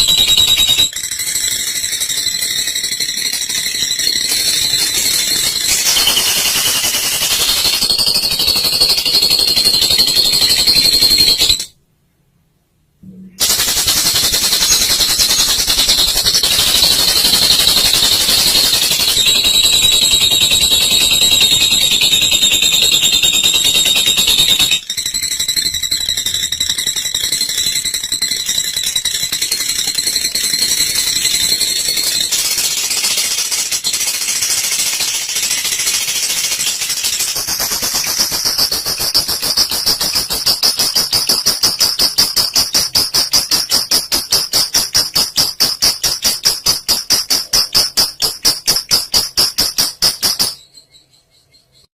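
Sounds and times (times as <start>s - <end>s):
lovebird rattling chatter: 0.0s - 11.8s, 13.4s - 51.9s.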